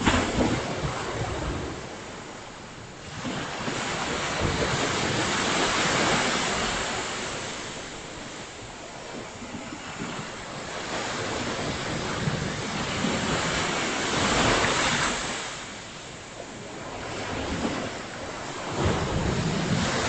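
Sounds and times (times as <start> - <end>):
ocean wave breaking: 0.0 - 20.0
wind on microphone: 0.0 - 20.0.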